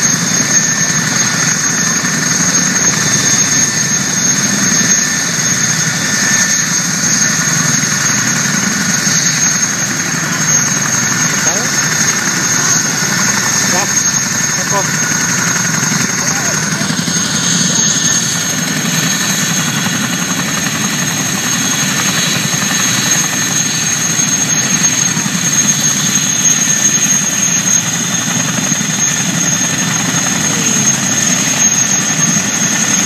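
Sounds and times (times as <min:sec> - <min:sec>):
helicopter engines whining: 0:00.0 - 0:33.0
helicopter rotor rumble: 0:00.0 - 0:33.0.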